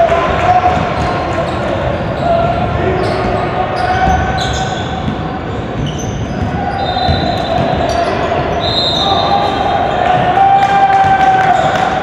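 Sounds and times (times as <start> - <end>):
echoing gym din: 0.0 - 12.0
sneakers squeaking: 0.6 - 12.0.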